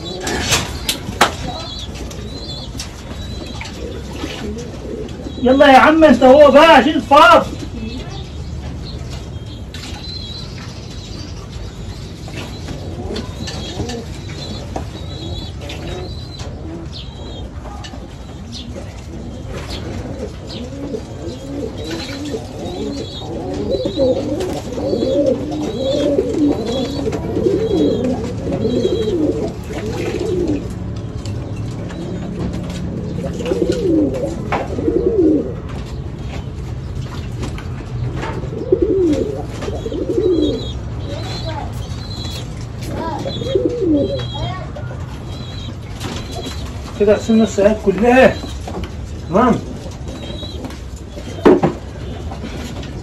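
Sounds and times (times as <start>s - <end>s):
pigeons cooing: 0.0s - 8.4s, 9.2s - 36.8s, 37.7s - 53.0s.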